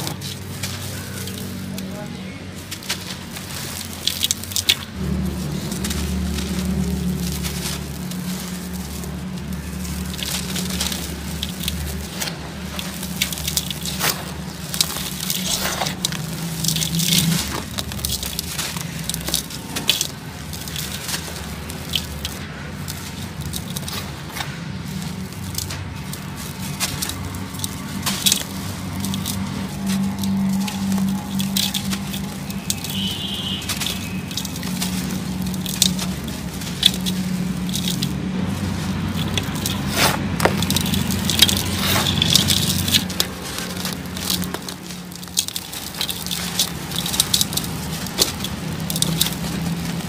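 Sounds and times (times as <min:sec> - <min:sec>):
grit falling into metal basin: 0:00.0 - 0:50.0
hands crushing gritty chunks: 0:00.0 - 0:50.0.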